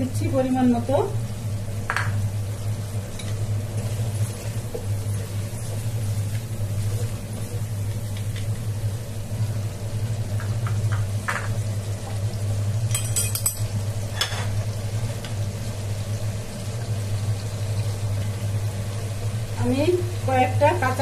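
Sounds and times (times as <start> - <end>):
spice paste bubbling and sizzling: 0.0 - 21.0.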